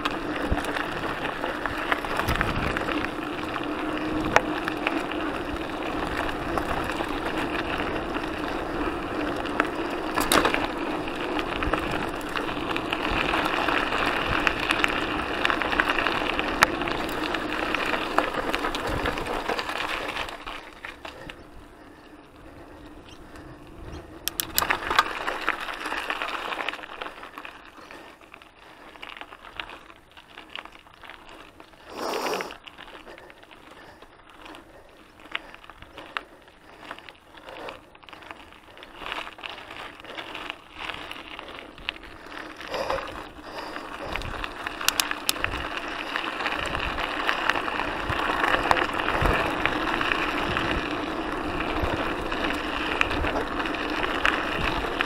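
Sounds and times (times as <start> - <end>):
bike clicking and rattling: 0.0 - 55.0
bike tyres on gravel trail: 0.0 - 55.0.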